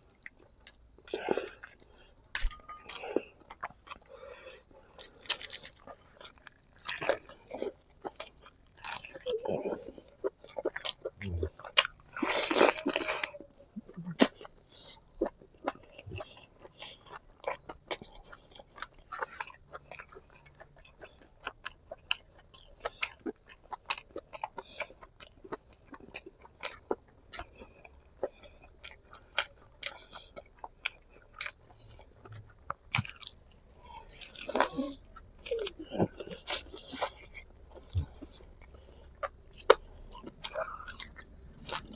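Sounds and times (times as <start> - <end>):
person chewing: 0.2 - 41.9.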